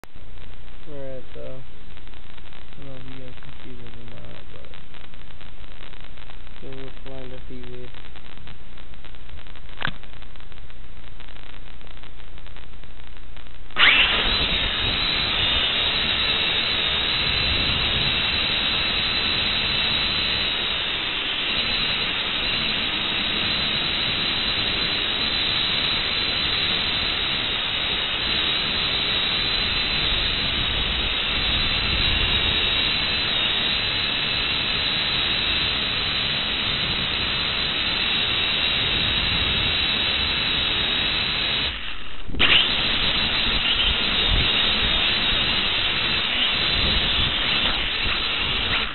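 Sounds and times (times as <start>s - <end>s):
steady rushing hiss: 0.1s - 48.9s.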